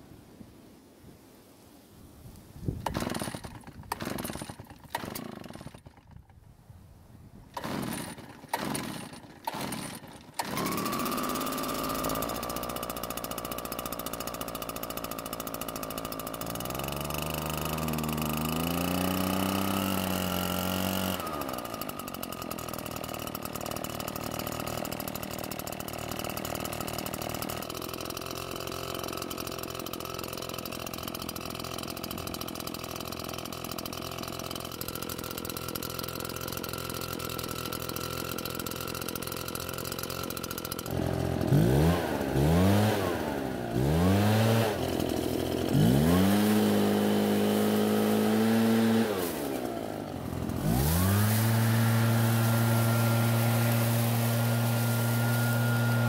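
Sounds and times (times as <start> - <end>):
blower engine idling and revving: 2.8 - 6.3, 7.5 - 56.0.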